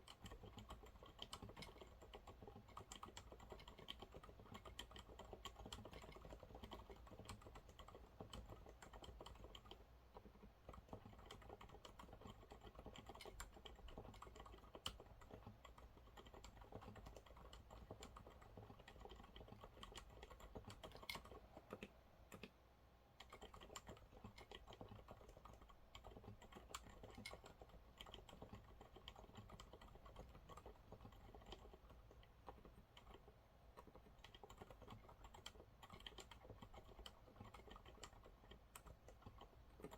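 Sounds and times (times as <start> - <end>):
muted keyboard typing: 0.0 - 22.6, 23.2 - 39.9.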